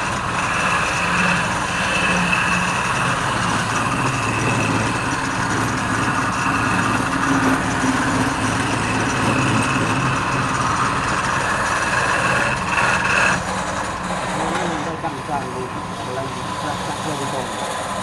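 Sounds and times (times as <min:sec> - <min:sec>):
wood lathe motor whining: 0:00.0 - 0:18.0.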